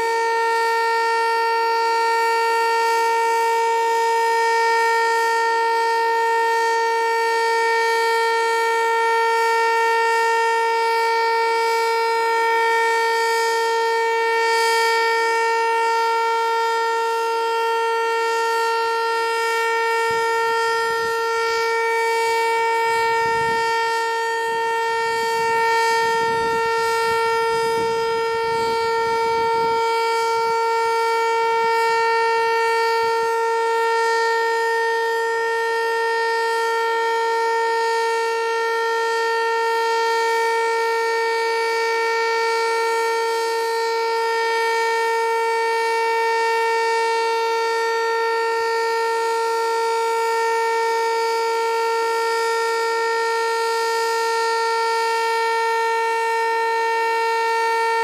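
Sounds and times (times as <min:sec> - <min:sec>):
storm siren steady tone: 0:00.0 - 0:58.0.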